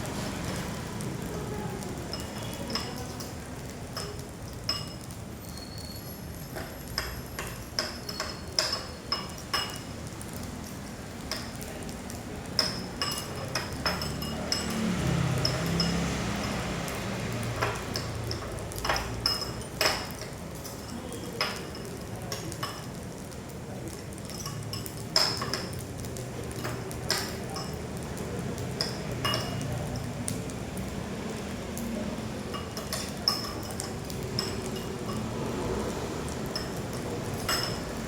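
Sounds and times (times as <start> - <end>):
rice sizzling in a pan: 0.0 - 38.0.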